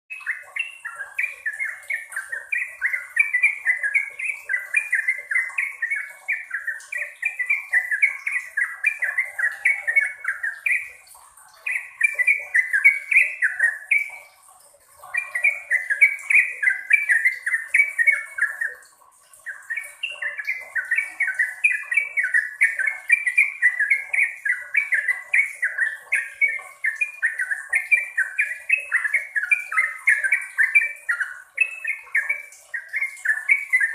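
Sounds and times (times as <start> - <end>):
bird singing fast repeated notes: 0.1 - 33.9.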